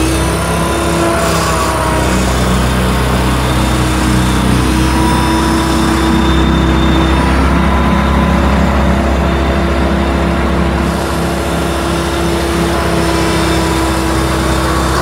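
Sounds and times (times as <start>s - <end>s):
diesel engine under load: 0.0s - 15.0s
flail mower rotor spinning: 0.0s - 15.0s.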